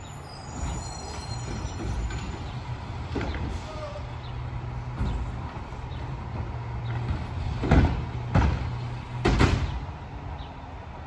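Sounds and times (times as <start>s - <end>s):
garbage truck engine hum: 0.5s - 11.0s.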